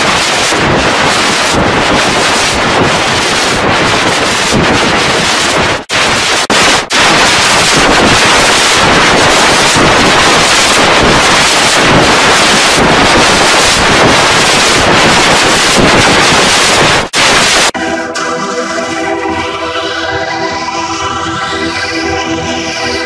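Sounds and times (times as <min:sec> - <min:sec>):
harsh static-like noise: 0:00.0 - 0:23.0.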